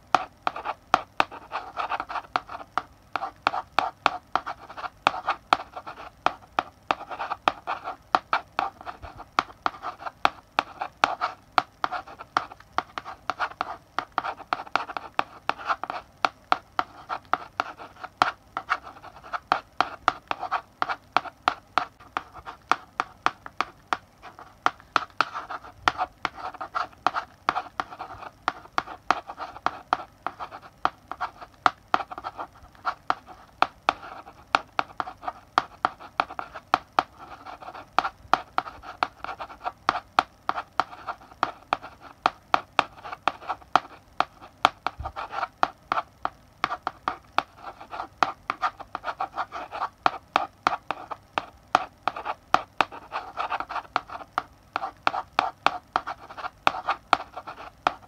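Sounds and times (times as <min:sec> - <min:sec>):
chalk tapping on board: 0:00.0 - 0:58.0
chalk scratching on blackboard: 0:00.1 - 0:58.0.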